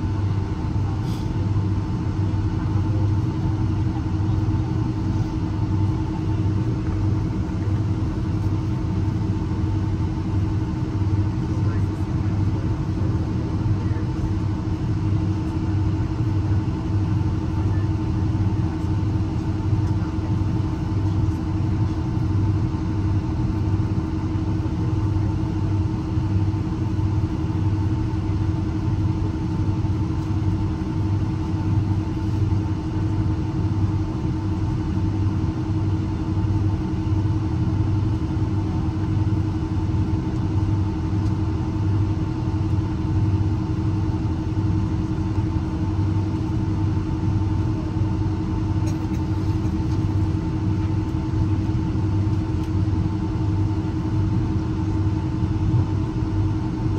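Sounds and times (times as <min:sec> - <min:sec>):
airplane cabin engine hum: 0:00.0 - 0:56.9.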